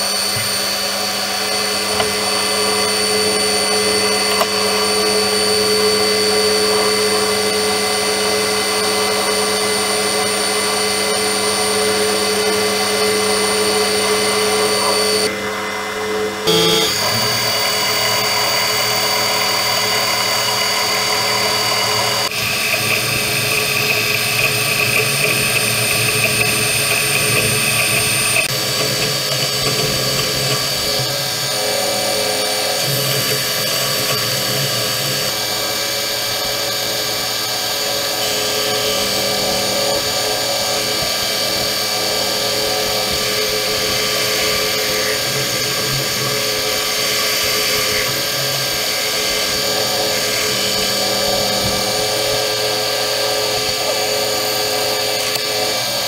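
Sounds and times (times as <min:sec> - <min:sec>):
cutting tool on steel: 0:00.0 - 0:15.4, 0:16.4 - 0:56.0
metal lathe whine: 0:00.0 - 0:56.0.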